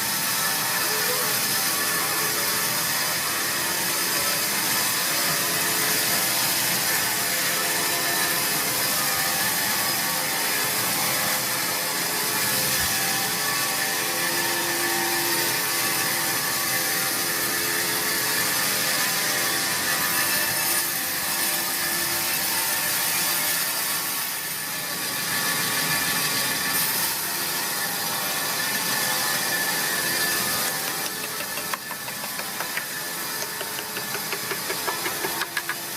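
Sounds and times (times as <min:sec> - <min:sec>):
sawmill saw cutting log: 0:00.0 - 0:35.9.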